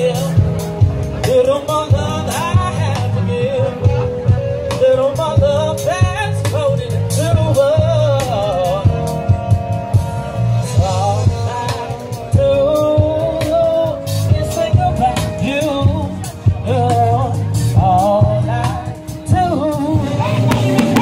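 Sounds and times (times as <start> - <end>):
drum kit: 0.0 - 21.0
electric guitar: 0.0 - 21.0
heavy bass line: 0.0 - 21.0
person singing: 0.0 - 21.0.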